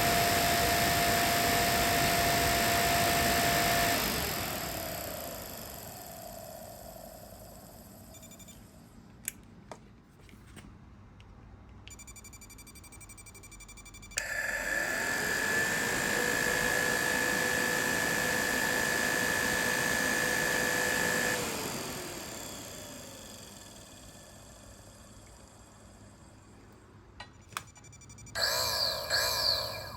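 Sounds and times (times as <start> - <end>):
electric cooling fan whining: 0.0 - 9.4, 14.0 - 29.9.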